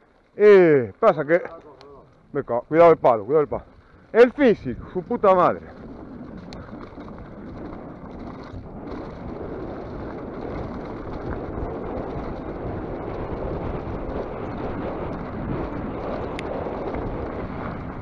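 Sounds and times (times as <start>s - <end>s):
tyres rolling on dirt: 0.0s - 18.0s
wind rushing over microphone: 2.3s - 18.0s.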